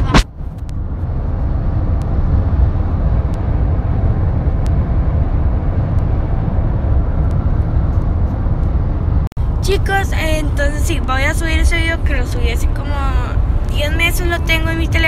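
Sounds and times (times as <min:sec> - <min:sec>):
vehicle interior rumble: 0:00.0 - 0:15.0.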